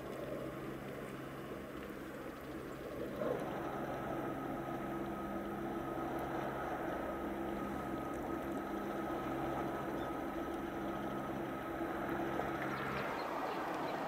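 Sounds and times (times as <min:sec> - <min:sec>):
ship machinery droning: 0:00.0 - 0:14.0.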